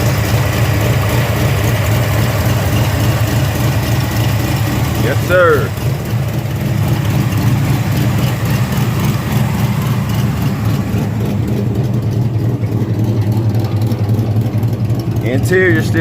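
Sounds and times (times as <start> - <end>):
car engine idling loudly: 0.0 - 16.0.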